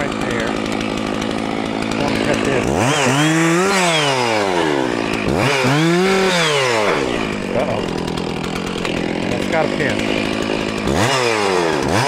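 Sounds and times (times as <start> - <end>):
chainsaw idling and revving: 0.0 - 12.0.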